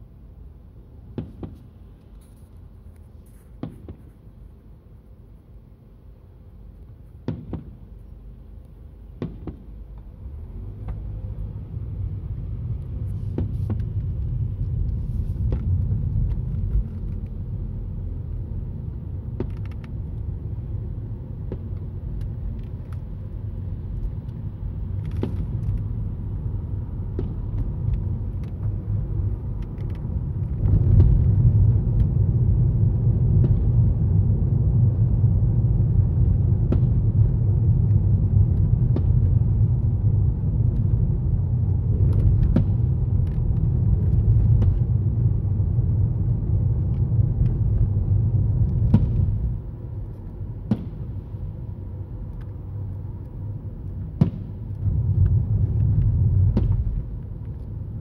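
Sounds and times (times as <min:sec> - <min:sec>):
car road rumble inside cabin: 0:00.0 - 0:58.0.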